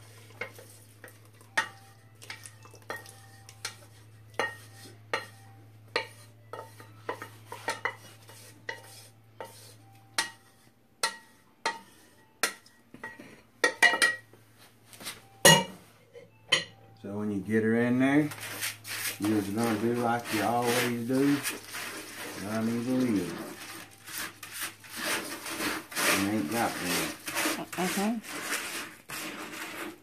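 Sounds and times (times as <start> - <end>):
spatula scraping a steel pan: 0.0 - 13.2, 18.3 - 30.0.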